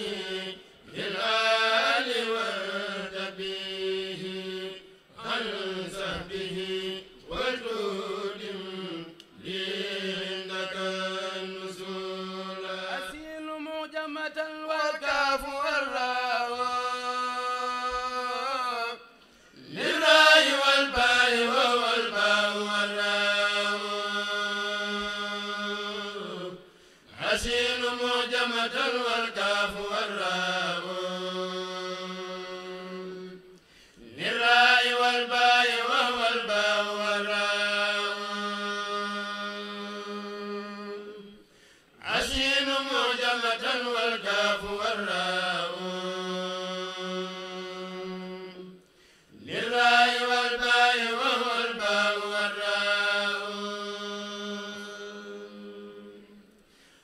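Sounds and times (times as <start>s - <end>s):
men chanting unaccompanied: 0.0s - 19.0s, 19.6s - 33.4s, 34.0s - 41.4s, 42.0s - 48.7s, 49.4s - 56.2s.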